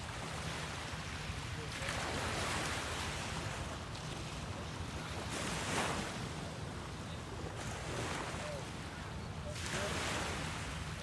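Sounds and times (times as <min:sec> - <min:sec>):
waves breaking on sandy beach: 0:00.0 - 0:11.0.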